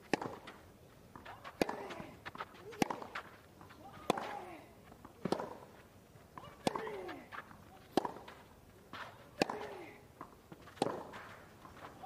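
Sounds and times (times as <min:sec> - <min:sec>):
racket striking ball: 0:00.0 - 0:05.7, 0:06.4 - 0:12.0
shoes scuffing on clay: 0:00.0 - 0:12.0.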